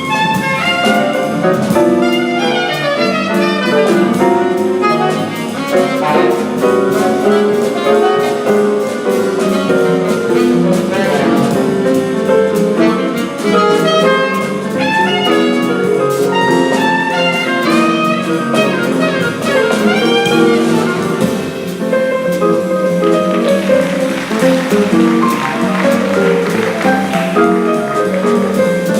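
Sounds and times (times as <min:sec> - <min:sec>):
drum kit with cymbals: 0:00.0 - 0:28.9
piano: 0:00.0 - 0:28.9
saxophone: 0:00.0 - 0:28.9.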